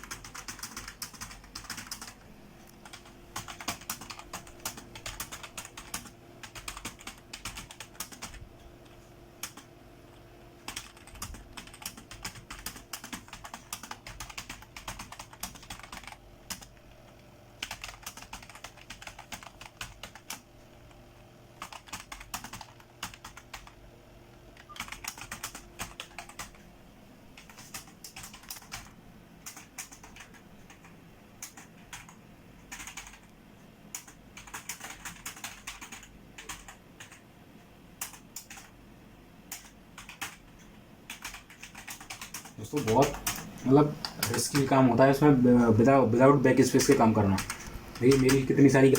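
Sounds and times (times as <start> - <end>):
computer keyboard typing: 0.0 - 8.4, 9.4 - 21.0, 21.6 - 23.8, 24.6 - 26.6, 27.4 - 37.3, 38.0 - 38.8, 39.5 - 45.0, 45.6 - 48.9.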